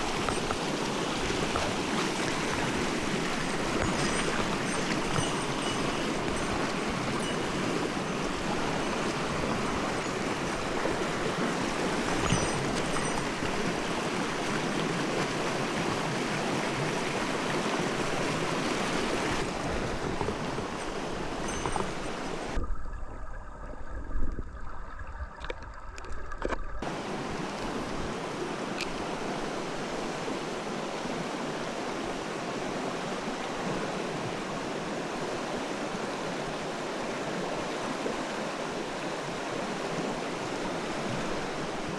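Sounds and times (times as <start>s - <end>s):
stream rushing over rocks: 0.0s - 22.6s, 26.8s - 41.9s.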